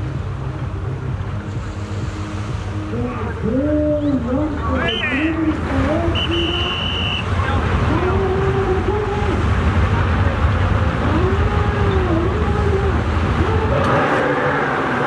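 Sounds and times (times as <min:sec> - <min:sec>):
jet ski engines revving: 0:00.0 - 0:15.0.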